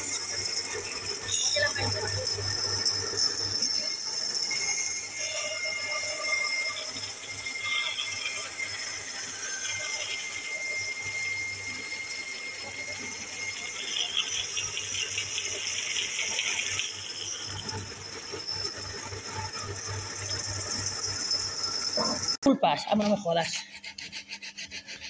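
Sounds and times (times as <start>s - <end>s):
power saw cutting wood: 0.0s - 25.0s.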